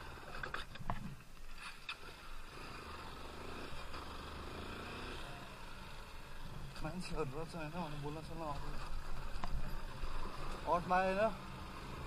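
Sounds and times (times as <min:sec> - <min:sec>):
dirt bike engine at low speed: 0:00.0 - 0:12.0.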